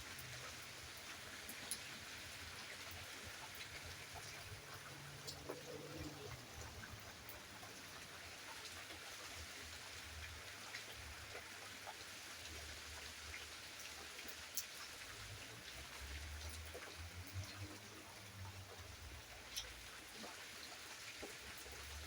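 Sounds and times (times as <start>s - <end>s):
rain falling: 0.0s - 22.0s
water drip: 0.0s - 22.0s.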